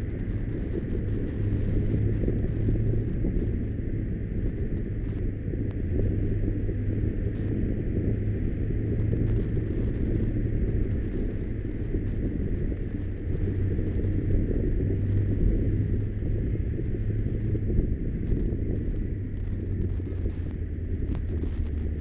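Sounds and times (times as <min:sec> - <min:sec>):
motorcycle engine at low revs: 0:00.0 - 0:22.0
wind rumble on microphone: 0:00.0 - 0:22.0.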